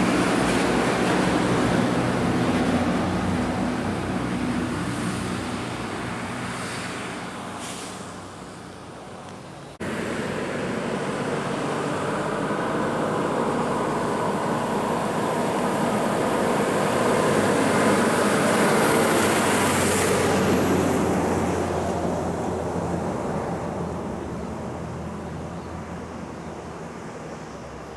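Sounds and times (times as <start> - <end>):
diesel truck pulling away: 0.0 - 9.0, 9.7 - 27.9
truck passing by: 0.0 - 27.9.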